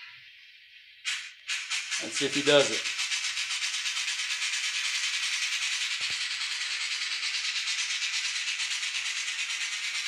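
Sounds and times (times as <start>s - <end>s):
model steam locomotive chuffing: 1.0s - 10.0s.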